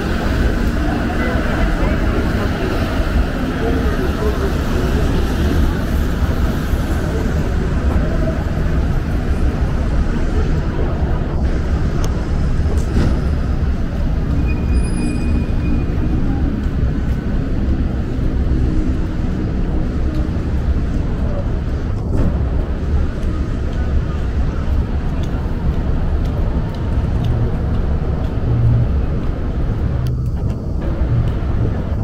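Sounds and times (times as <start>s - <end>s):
low rumble of street traffic: 0.0s - 32.0s.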